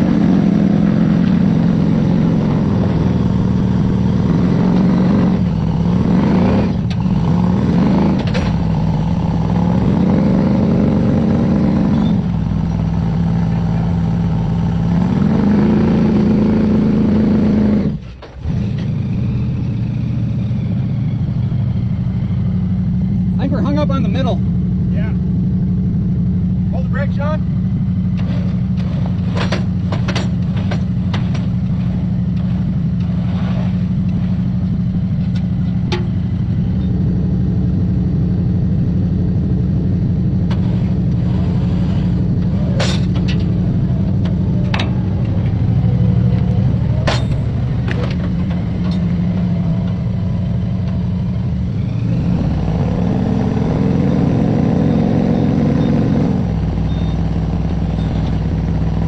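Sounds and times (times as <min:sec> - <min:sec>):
vehicle engine running low: 0:00.0 - 0:59.0.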